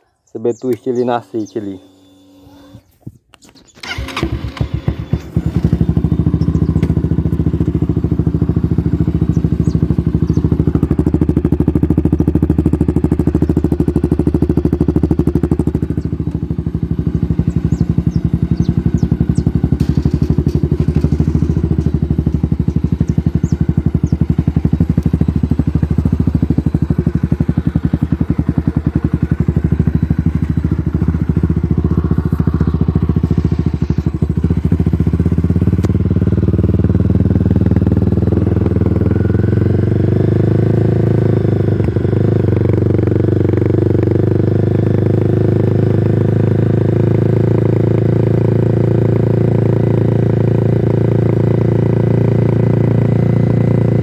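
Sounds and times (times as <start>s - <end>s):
motorcycle engine idling loudly: 3.8s - 54.0s.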